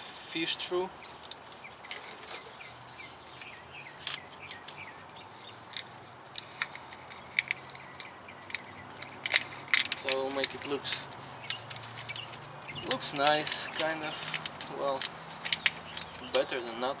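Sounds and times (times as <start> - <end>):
small birds chirping: 0.3 - 17.0
hands rustling wiring and tubing: 0.9 - 17.0.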